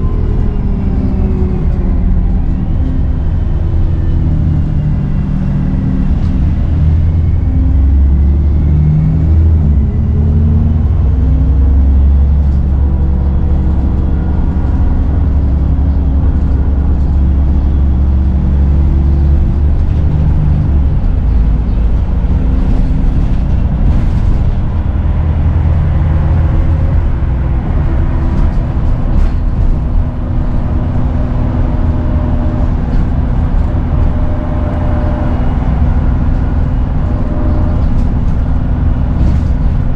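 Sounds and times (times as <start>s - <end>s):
bus diesel engine pulling away: 0.0s - 39.9s.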